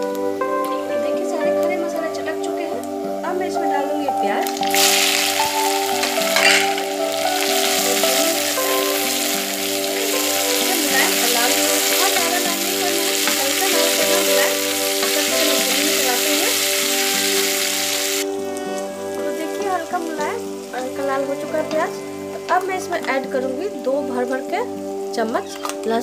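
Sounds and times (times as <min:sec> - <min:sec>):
soft background music: 0:00.0 - 0:26.0
onions sizzling in oil: 0:03.5 - 0:26.0.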